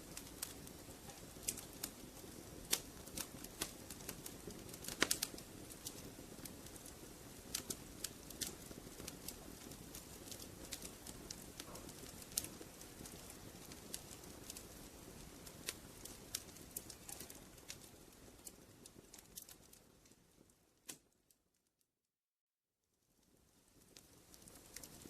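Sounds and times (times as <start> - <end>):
wood fire crackling and popping: 0.0 - 21.3, 23.2 - 25.0
low steady hiss: 0.0 - 21.8, 22.9 - 25.0.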